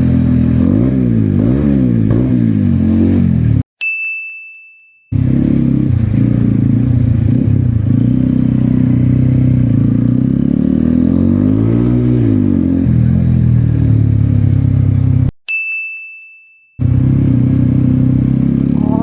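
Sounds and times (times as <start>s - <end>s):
motorcycle engine running: 0.0s - 3.6s, 5.1s - 15.3s, 16.8s - 19.0s.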